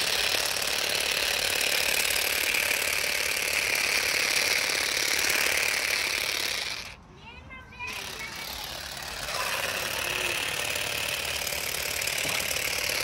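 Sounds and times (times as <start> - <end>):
cordless shrub shears buzzing: 0.0 - 7.0, 7.7 - 13.0.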